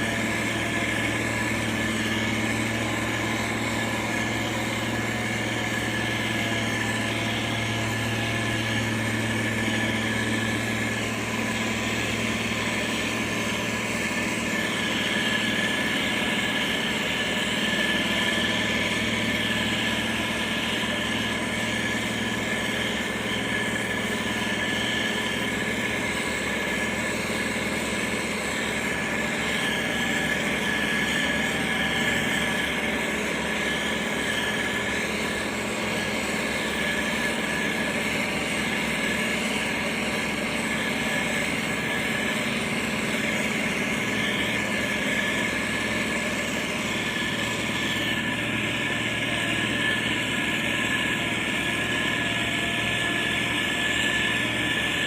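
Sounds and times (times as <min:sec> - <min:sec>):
heavy diesel engines running: 0:00.0 - 0:55.0
high whine: 0:00.0 - 0:55.0.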